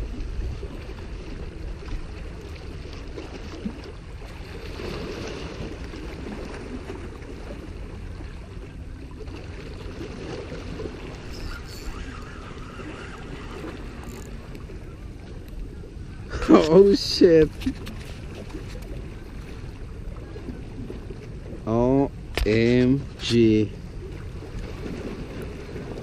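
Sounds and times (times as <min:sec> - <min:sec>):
small waves splashing against rocks: 0:00.0 - 0:26.0
wind rumble on microphone: 0:00.0 - 0:26.0.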